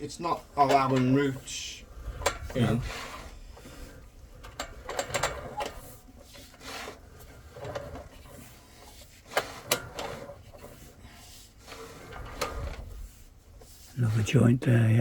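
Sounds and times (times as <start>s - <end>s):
rubbing and scraping: 0.0s - 14.5s.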